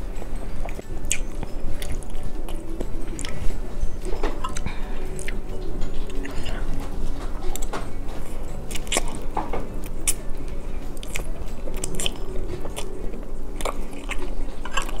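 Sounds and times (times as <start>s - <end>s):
chewing smacks: 0.0s - 15.0s.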